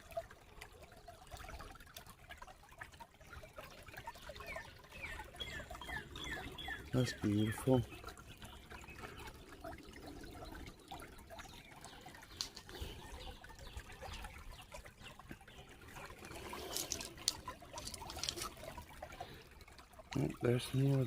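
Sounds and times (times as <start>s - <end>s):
creek water trickling: 0.0s - 21.0s
light water splashes: 0.0s - 21.0s.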